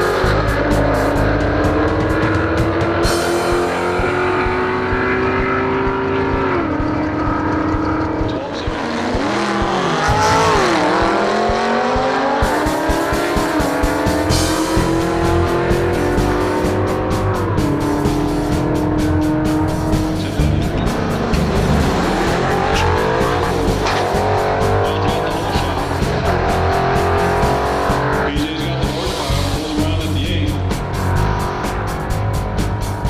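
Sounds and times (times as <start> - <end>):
muscle car engines revving: 0.0 - 33.0
rock music with steady beat: 0.0 - 33.0.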